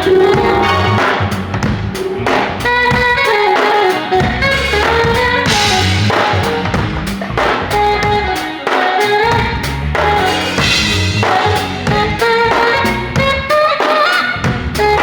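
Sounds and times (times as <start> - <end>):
band playing: 0.0 - 15.0
drum kit: 0.0 - 15.0.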